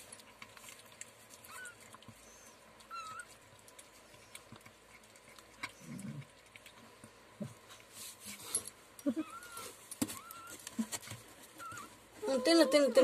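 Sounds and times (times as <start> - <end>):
cat chewing and lapping food: 0.0 - 12.2.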